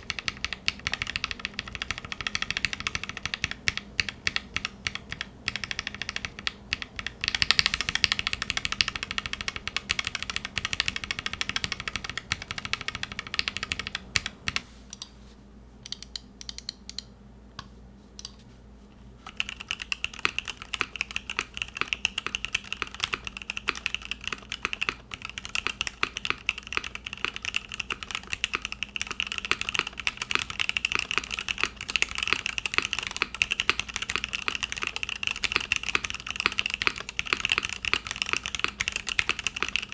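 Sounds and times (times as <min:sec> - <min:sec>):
mechanical keyboard typing clacks: 0:00.0 - 0:14.6, 0:19.3 - 0:39.9.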